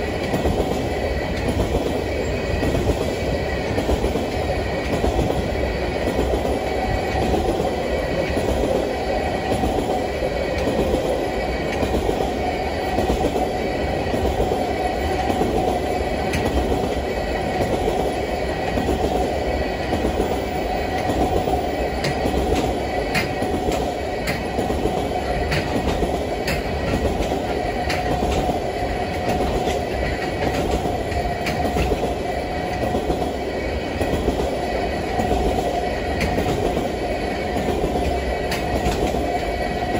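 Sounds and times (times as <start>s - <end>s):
steel train wheels rumbling on rails: 0.0s - 39.9s
wheels clacking over rail joints: 0.0s - 39.9s.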